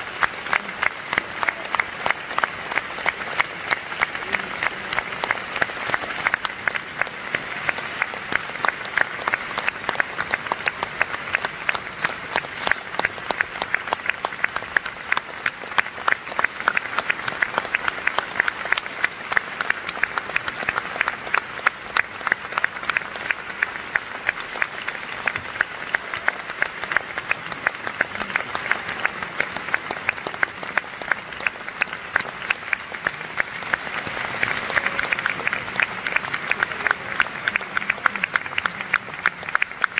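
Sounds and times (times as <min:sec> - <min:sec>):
audience applauding: 0:00.0 - 0:39.9.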